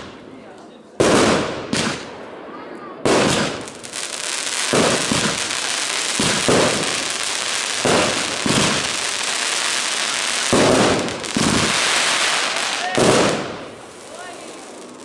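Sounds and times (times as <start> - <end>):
fireworks booming bursts: 0.0 - 0.4, 1.0 - 15.0
dense fireworks crackling: 0.0 - 15.0.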